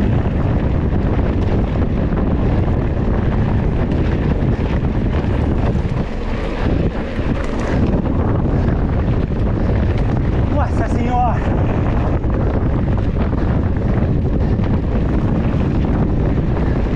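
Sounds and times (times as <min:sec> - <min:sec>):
bike rolling on dirt road: 0:00.0 - 0:16.9
wind buffeting microphone: 0:00.0 - 0:16.9.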